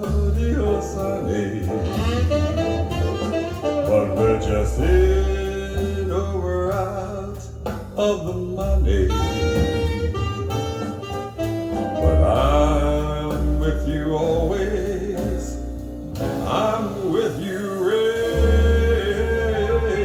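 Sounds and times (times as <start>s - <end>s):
jazz band accompaniment: 0.0s - 20.0s
man singing jazz ballad: 0.0s - 20.0s.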